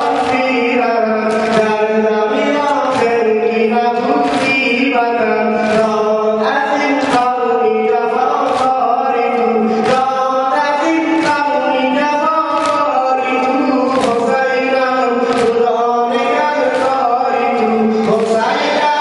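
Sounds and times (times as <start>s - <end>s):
crowd beating chests: 0.0s - 19.0s
man chanting through loudspeaker: 0.0s - 19.0s.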